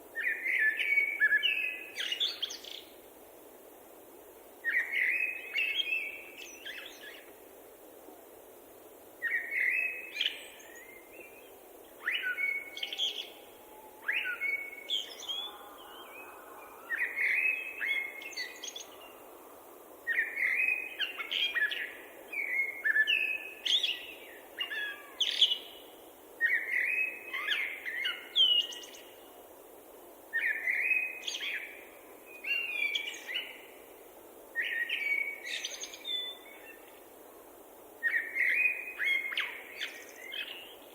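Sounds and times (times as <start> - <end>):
low background hiss: 0.0 - 40.9.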